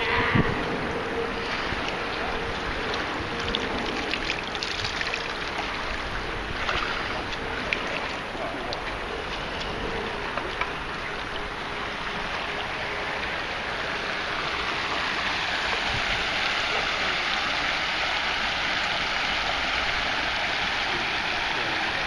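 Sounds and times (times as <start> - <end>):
creek water rushing and splashing: 0.0 - 22.0.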